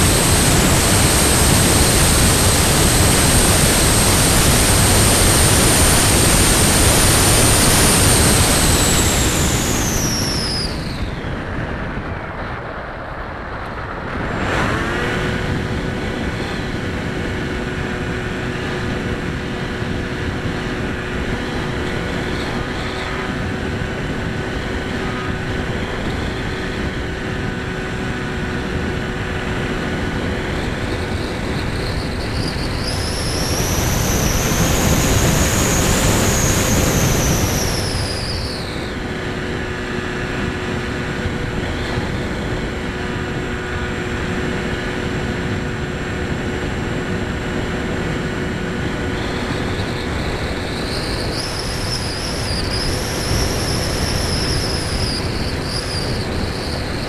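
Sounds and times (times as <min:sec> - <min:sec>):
electric motor and propeller whine: 0:00.0 - 0:57.0.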